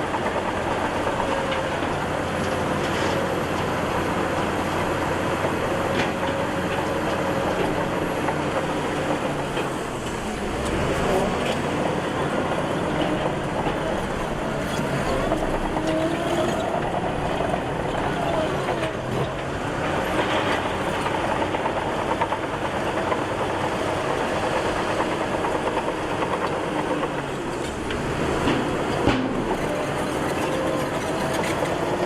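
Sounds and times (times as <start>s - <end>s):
bulldozer diesel engine: 0.0s - 32.0s
steel tracks clanking: 4.8s - 32.0s.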